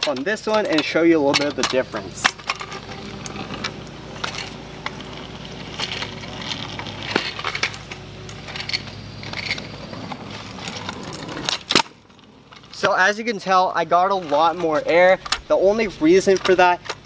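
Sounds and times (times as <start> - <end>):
rattling clacks of scooter frame: 0.0 - 17.0
scooter wheels rumbling on asphalt: 0.0 - 17.0.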